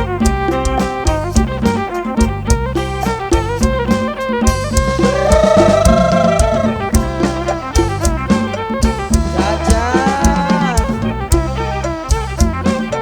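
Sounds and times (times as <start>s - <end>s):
wavering held melody notes: 0.0s - 12.1s
bass line: 0.0s - 13.0s
steady drum beat: 0.0s - 13.0s.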